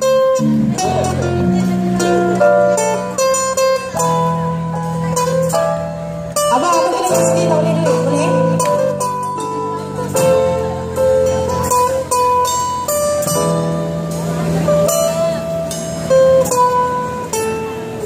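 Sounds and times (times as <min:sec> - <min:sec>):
acoustic guitar: 0:00.0 - 0:18.0
keyboard: 0:00.0 - 0:18.0.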